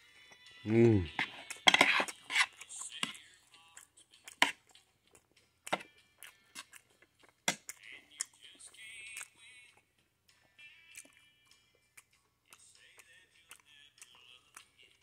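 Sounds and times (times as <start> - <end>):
soft chewing: 0.1 - 15.0.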